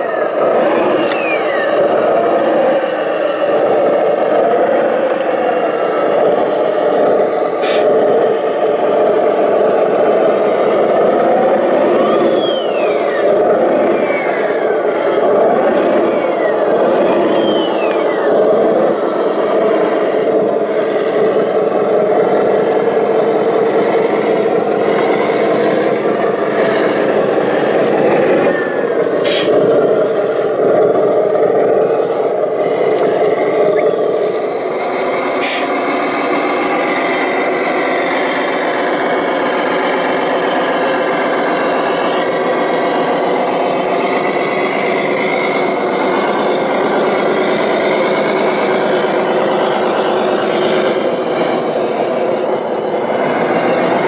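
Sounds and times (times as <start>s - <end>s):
electric motors whirring: 0.0s - 54.0s.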